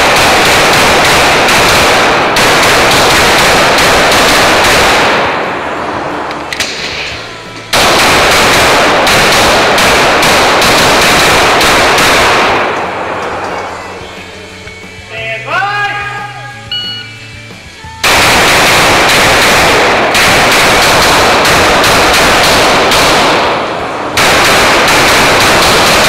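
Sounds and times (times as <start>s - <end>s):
pistol shots echoing indoors: 0.0s - 13.5s, 18.0s - 26.0s.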